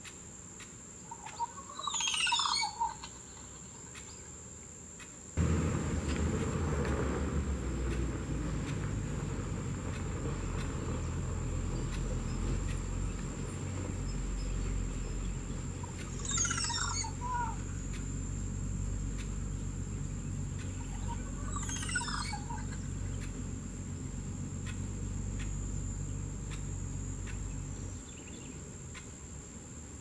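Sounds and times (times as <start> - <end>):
bird song cascading notes: 1.0 - 4.3, 5.4 - 28.7.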